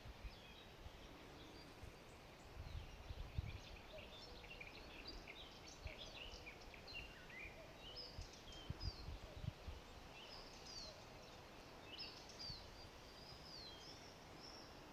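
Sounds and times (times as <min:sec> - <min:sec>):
small birds singing: 0:00.0 - 0:14.9.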